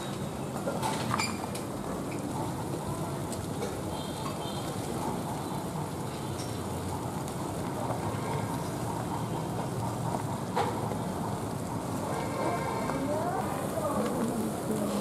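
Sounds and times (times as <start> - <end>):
eels sizzling in hot oil: 2.3 - 15.0.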